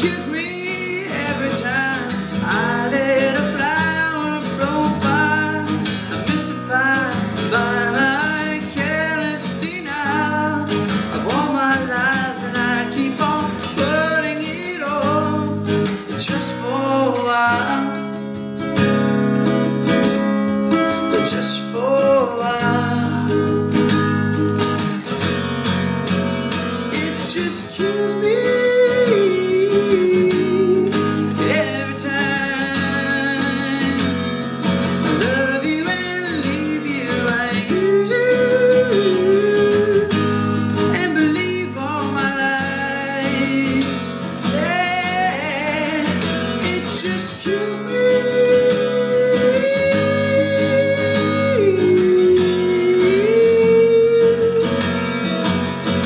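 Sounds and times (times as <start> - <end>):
man singing: 0.0 - 18.8, 19.8 - 24.0, 26.8 - 56.0
acoustic guitar strumming: 0.0 - 56.0.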